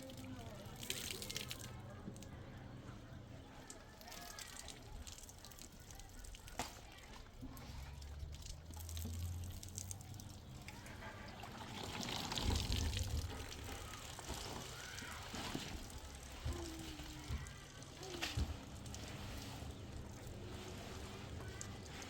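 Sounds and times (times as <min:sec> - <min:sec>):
water sloshing and pouring: 0:00.0 - 0:02.4, 0:03.2 - 0:22.0.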